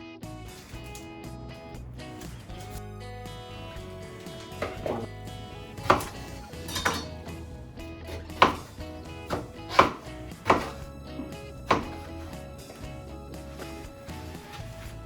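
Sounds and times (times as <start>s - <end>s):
background music: 0.0s - 15.0s
kitchenware knocking: 2.1s - 14.8s.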